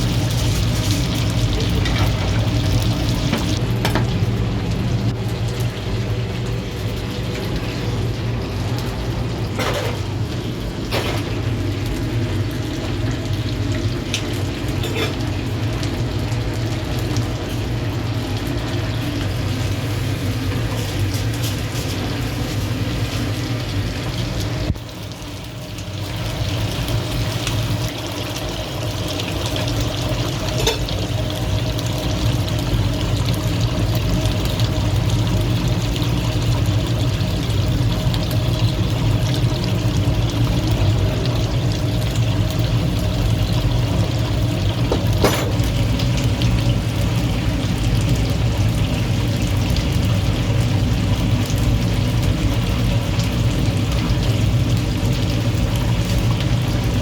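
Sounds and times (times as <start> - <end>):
chicken sizzling over fire: 0.0 - 57.0
constant low hum: 0.0 - 57.0.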